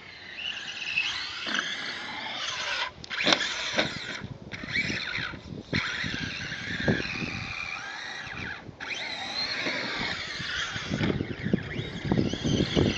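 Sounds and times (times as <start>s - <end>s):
electric motor whine: 0.0s - 12.9s.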